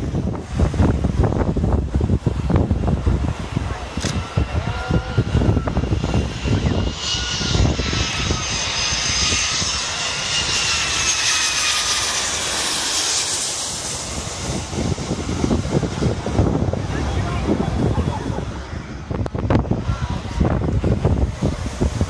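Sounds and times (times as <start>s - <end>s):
jet airliner passing overhead: 0.0s - 22.0s
wind buffeting microphone: 0.0s - 22.0s.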